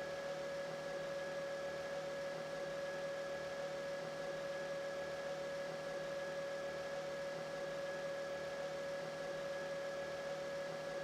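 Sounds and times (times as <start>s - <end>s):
electrical hum with whine: 0.0s - 11.0s.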